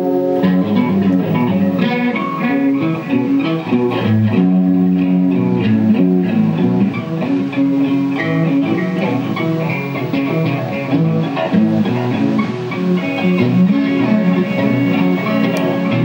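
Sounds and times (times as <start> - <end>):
guitar playing plucked melody: 0.0 - 16.0.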